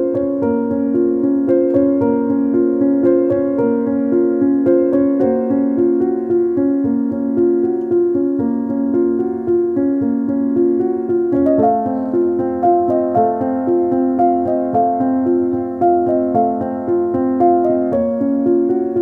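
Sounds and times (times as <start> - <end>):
piano music with held notes: 0.0 - 19.0.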